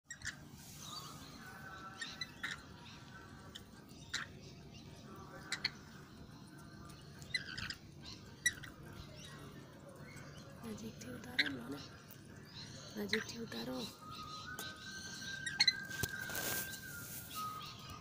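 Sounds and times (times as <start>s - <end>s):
lorikeets chirping and squeaking: 0.1s - 18.0s.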